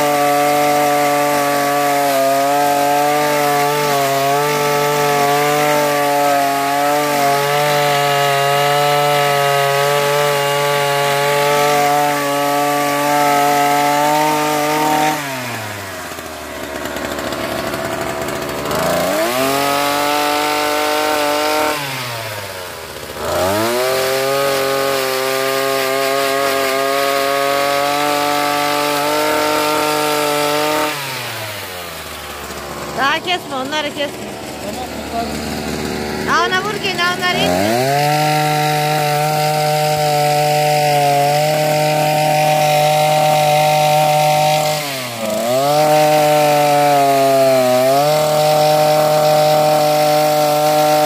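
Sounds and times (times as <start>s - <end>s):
chainsaw cutting wood: 0.0s - 51.0s.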